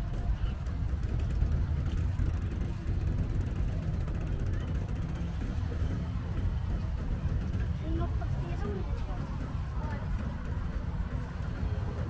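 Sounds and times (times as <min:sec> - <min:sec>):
bicycle tyres rolling on pavement: 0:00.0 - 0:12.0.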